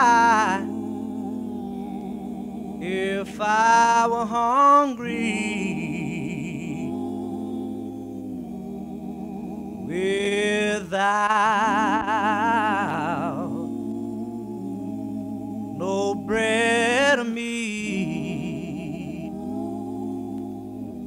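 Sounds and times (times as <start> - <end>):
gospel choir singing: 0.0 - 21.0.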